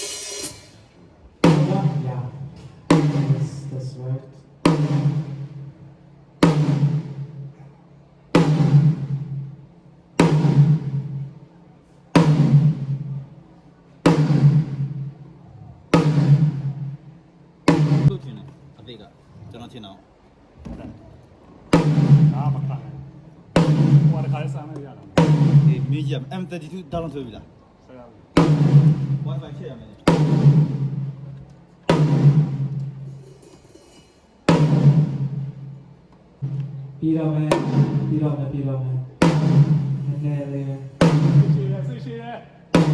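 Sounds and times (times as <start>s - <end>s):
drum hits ringing low: 0.0s - 3.8s, 4.5s - 11.5s, 12.1s - 13.4s, 14.0s - 18.8s, 20.4s - 27.4s, 28.3s - 33.7s, 34.5s - 42.9s.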